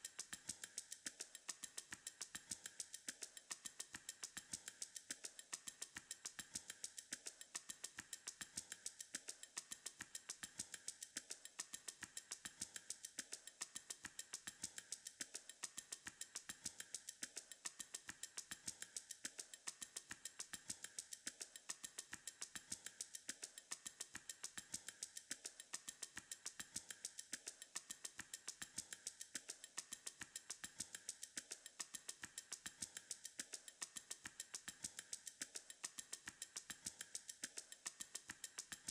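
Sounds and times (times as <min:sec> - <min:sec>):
quiet clicking beat music: 0:00.0 - 0:38.9.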